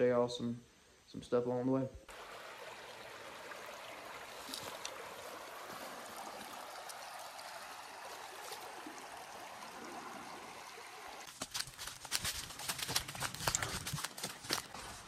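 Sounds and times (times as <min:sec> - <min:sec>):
stream trickling over stones: 0:02.1 - 0:15.0.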